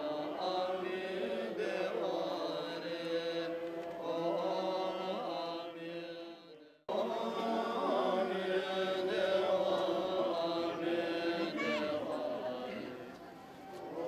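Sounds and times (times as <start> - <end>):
group chanting: 0.0 - 14.0.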